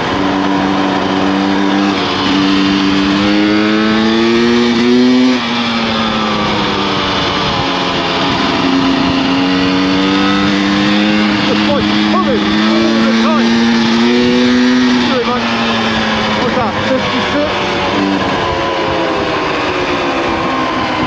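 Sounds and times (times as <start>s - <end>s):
two-stroke motorcycle engine: 0.0s - 21.0s.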